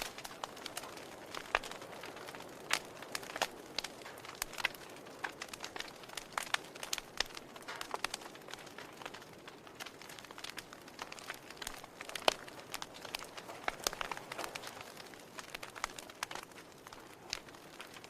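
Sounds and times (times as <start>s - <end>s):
fire soft hiss: 0.0s - 18.0s
wood fire pops and snaps: 0.0s - 18.0s.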